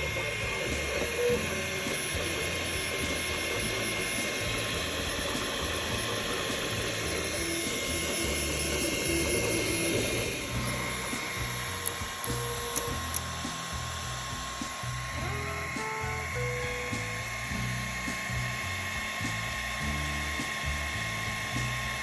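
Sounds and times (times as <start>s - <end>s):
printer motors whirring: 0.0s - 22.0s
steady high hum: 0.0s - 22.0s.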